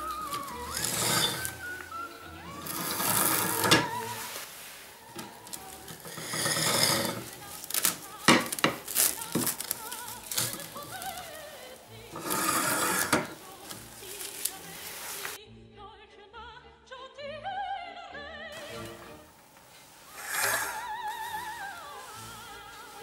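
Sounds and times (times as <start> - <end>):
cling film rustling: 0.0 - 15.4, 18.6 - 23.0
background music: 0.0 - 23.0.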